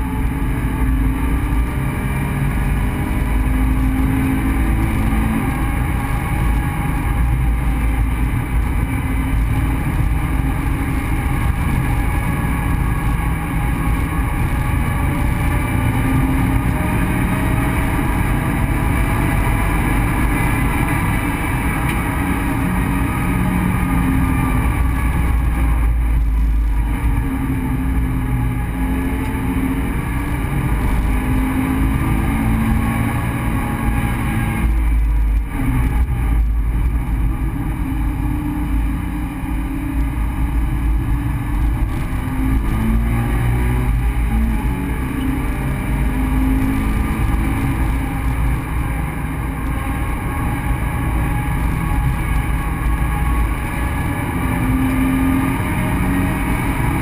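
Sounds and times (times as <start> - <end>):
car engine under hard driving: 0.0 - 57.0
road and wind noise: 0.0 - 57.0.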